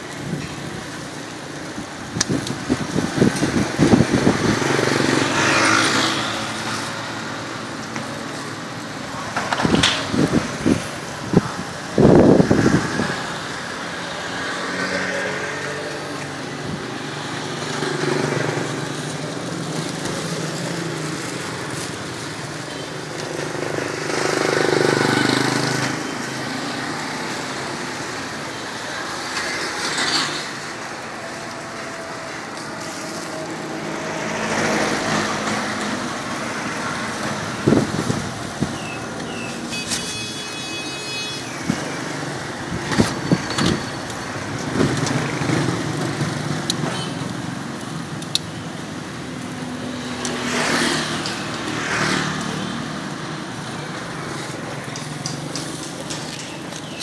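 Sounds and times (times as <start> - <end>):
traffic hum: 0.0 - 57.0
vehicles passing: 0.0 - 57.0.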